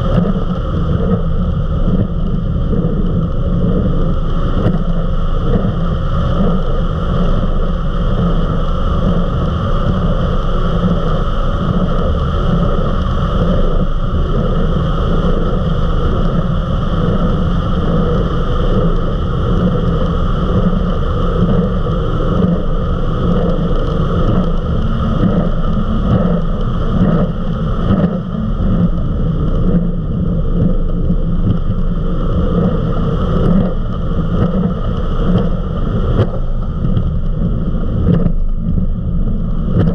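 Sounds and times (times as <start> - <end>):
powerboat engine drone: 0.0 - 39.9
rush of wind and water: 0.0 - 39.9.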